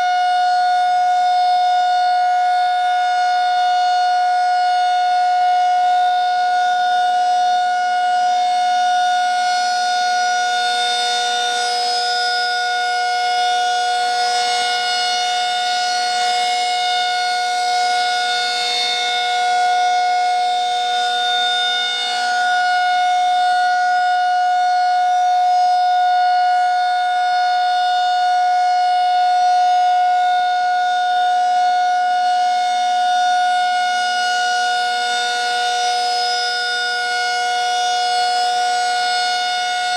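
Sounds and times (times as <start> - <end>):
steady siren tone: 0.0 - 39.9.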